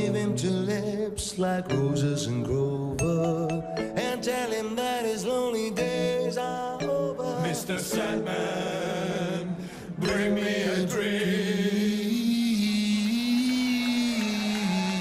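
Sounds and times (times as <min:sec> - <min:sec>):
male vocal quartet a cappella: 0:00.0 - 0:15.0.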